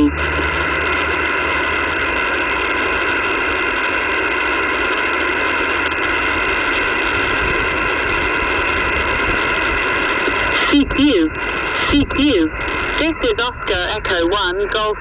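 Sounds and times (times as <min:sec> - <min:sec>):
faint steady radio tones: 0:00.0 - 0:15.0
radio static hiss: 0:00.0 - 0:15.0.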